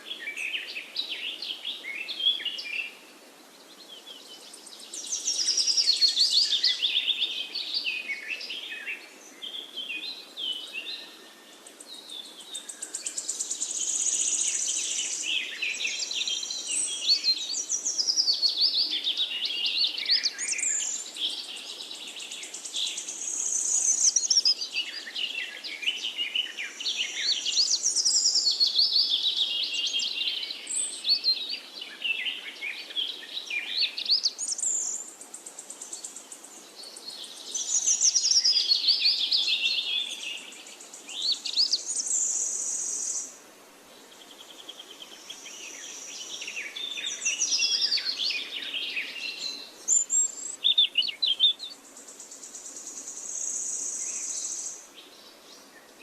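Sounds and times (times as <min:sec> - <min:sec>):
birdsong chirping and warbling: 0:00.0 - 0:56.0
faint background hiss: 0:00.0 - 0:56.0.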